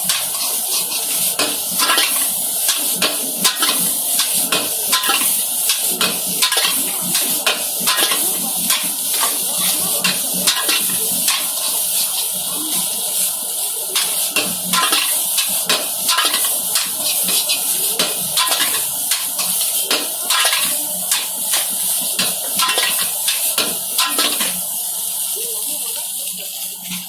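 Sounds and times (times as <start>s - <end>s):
metal utensils and dishes clattering: 0.0s - 13.0s, 14.0s - 24.6s.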